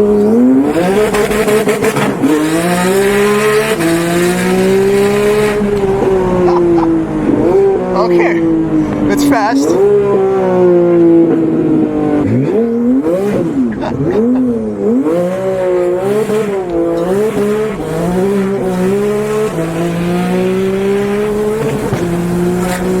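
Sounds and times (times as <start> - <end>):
car engine idling: 0.0 - 23.0
car engine revving: 0.0 - 23.0.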